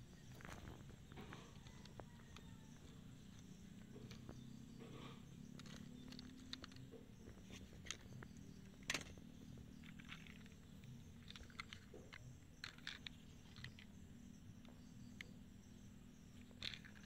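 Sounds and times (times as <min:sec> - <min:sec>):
plastic toy vehicles clicking: 0:00.3 - 0:17.0.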